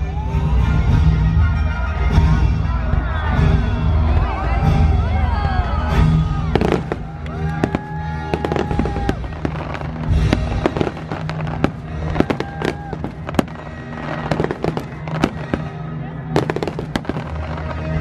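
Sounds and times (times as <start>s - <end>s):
fireworks bangs and crackles: 2.2s - 18.0s.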